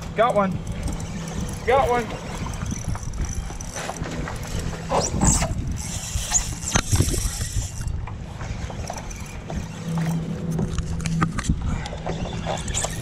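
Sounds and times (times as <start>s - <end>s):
fishing reel clicking and ratcheting: 0.0s - 8.0s, 8.6s - 13.0s.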